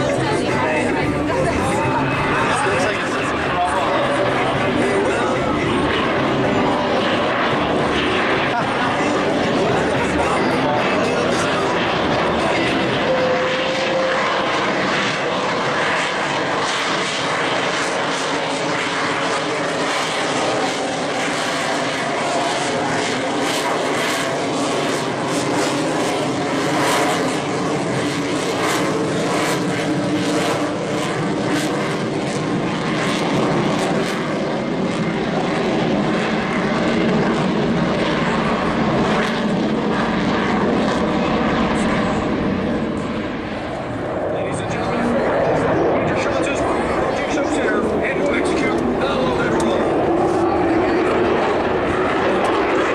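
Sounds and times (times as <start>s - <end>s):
aircraft engine running: 0.0s - 52.9s.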